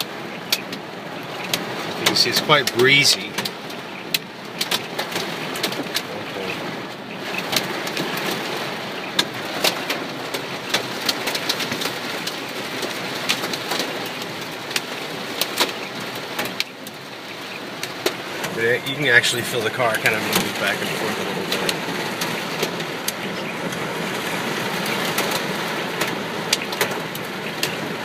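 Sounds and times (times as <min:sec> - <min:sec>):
rain hissing: 0:00.1 - 0:28.0
hail striking car body and glass: 0:01.5 - 0:28.0.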